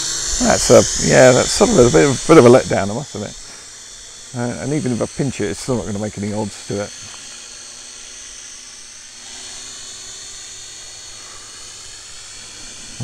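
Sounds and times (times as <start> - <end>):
quadcopter propellers buzzing: 0.0 - 13.0.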